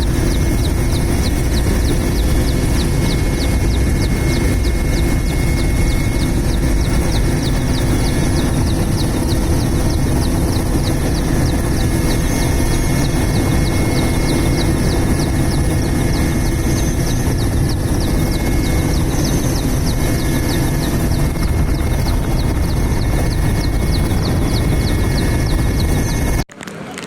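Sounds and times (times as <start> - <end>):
helicopter drone with ticking: 0.0 - 27.0.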